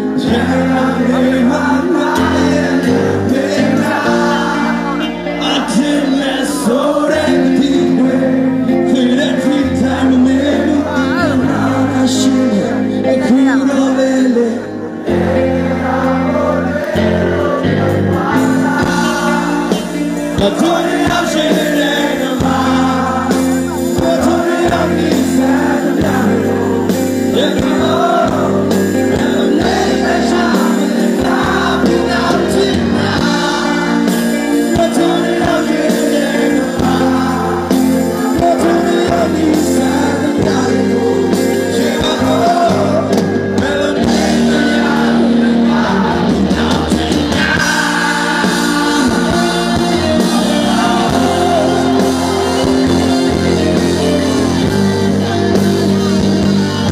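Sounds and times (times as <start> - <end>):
band accompaniment: 0.0 - 56.9
person singing: 0.0 - 56.9.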